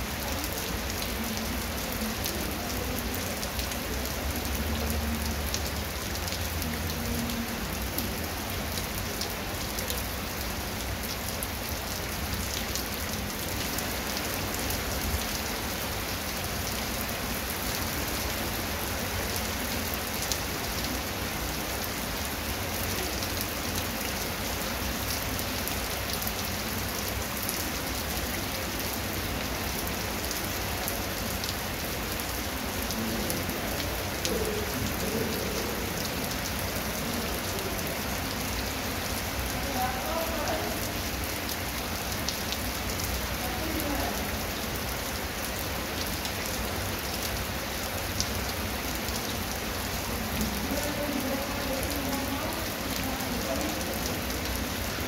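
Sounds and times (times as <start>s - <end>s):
rain on concrete and grass: 0.0s - 55.0s.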